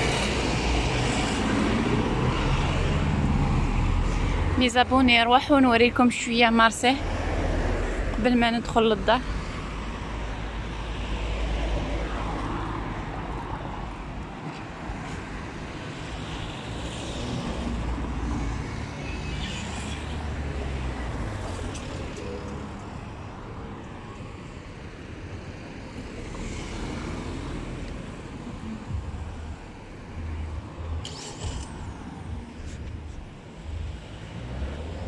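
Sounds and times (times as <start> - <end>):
cars driving past: 0.0 - 35.0.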